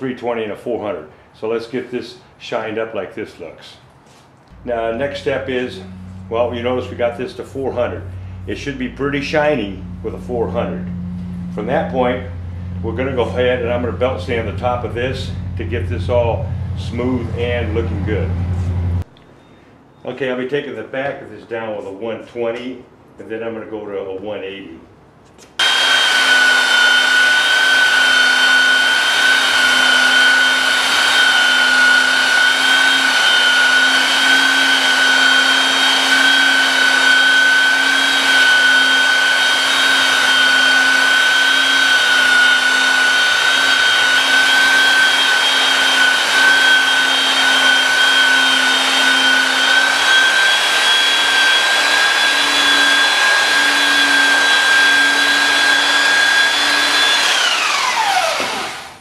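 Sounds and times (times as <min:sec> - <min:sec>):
belt sander on wood: 0:04.1 - 0:19.1, 0:25.6 - 0:59.0.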